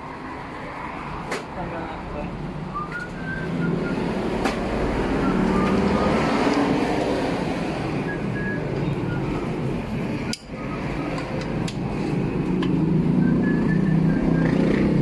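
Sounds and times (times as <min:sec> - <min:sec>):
rumbling workshop noise: 0:00.0 - 0:15.0.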